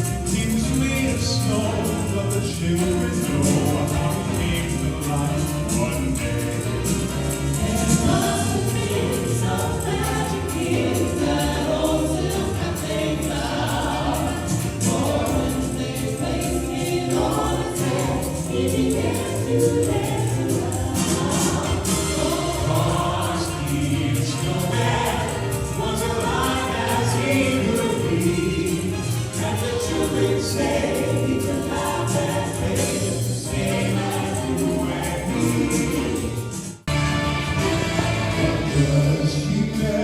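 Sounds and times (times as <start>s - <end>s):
choir singing a carol: 0.0s - 40.0s
musical accompaniment: 0.0s - 40.0s.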